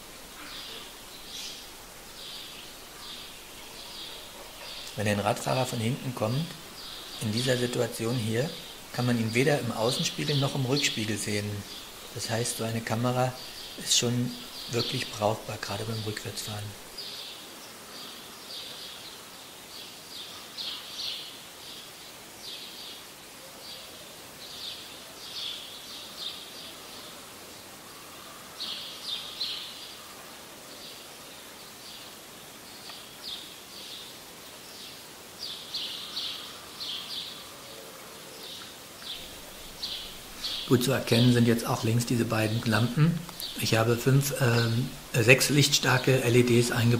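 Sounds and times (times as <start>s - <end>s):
small birds chirping: 0.0s - 46.9s
steady low hiss: 0.0s - 46.9s.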